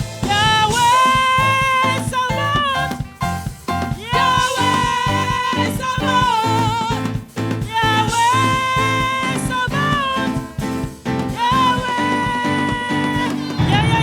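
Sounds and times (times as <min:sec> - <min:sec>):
band accompaniment: 0:00.0 - 0:14.0
person singing with vibrato: 0:00.0 - 0:14.0.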